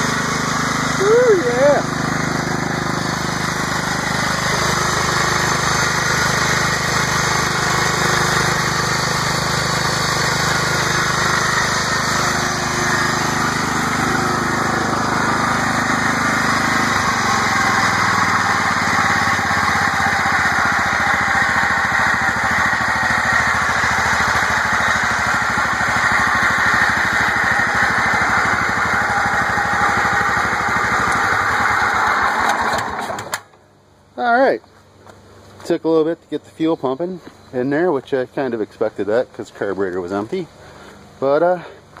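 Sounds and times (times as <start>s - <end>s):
lawn tractor engine running: 0.0s - 34.2s.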